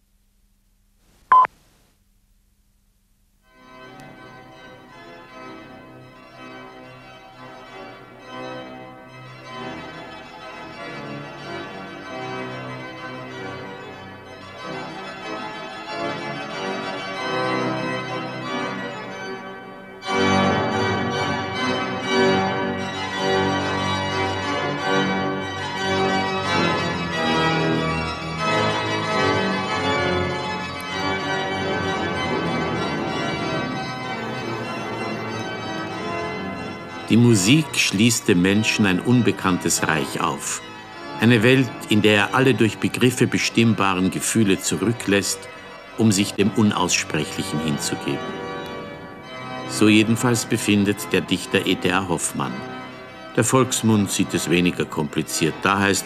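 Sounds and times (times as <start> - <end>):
pipe organ chords: 3.5 - 56.0.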